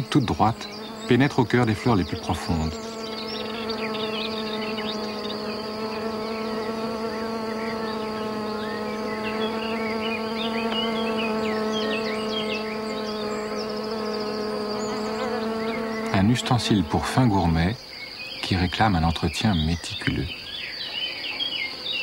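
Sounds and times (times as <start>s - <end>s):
fly wings buzzing: 0.0s - 17.7s.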